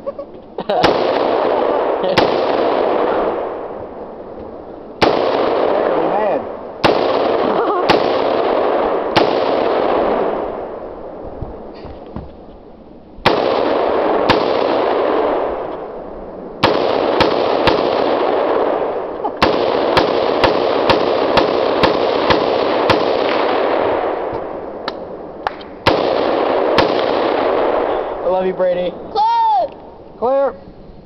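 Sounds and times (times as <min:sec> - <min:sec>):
rifle gunshots with echo: 0:00.8 - 0:11.7, 0:13.2 - 0:29.0.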